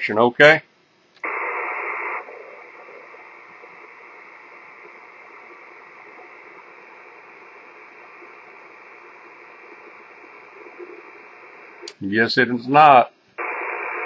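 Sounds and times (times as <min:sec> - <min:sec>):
radio static hiss: 0:01.2 - 0:14.0.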